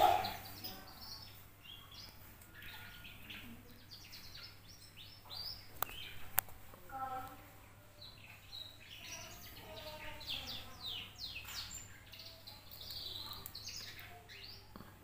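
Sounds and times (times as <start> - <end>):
young canary twittering: 0.0 - 6.4, 7.0 - 15.0.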